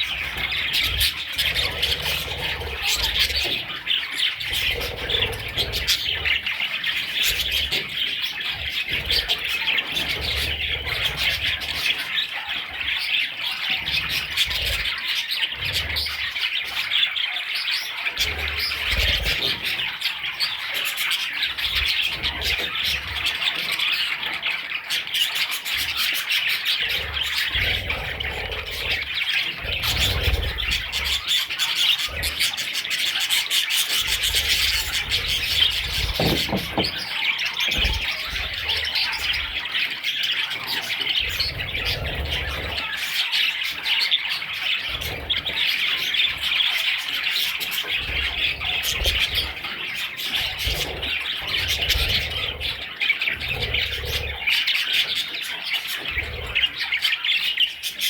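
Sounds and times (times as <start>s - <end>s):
chicks chirping and chattering: 0.0s - 58.0s.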